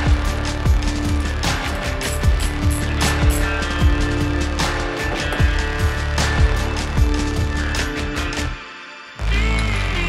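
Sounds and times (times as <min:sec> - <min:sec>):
music with steady beat: 0:00.0 - 0:08.6.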